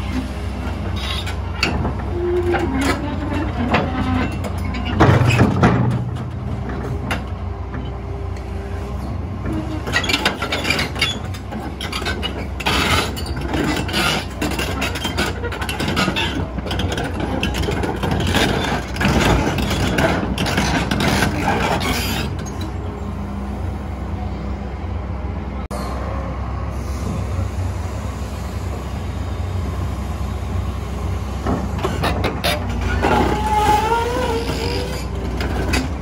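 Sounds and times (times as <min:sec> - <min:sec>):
steel tracks clanking: 0:00.0 - 0:24.3, 0:25.7 - 0:36.0
excavator diesel engine running: 0:00.0 - 0:36.0.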